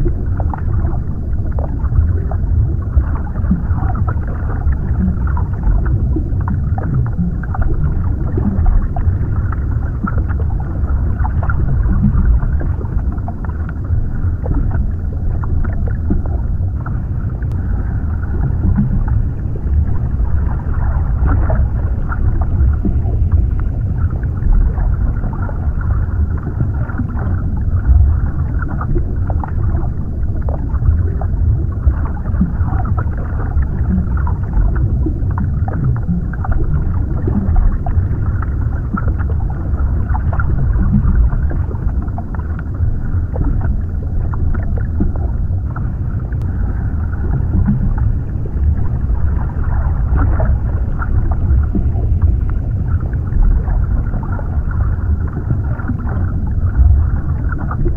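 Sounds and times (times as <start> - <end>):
muffled underwater rumble: 0.0 - 57.9.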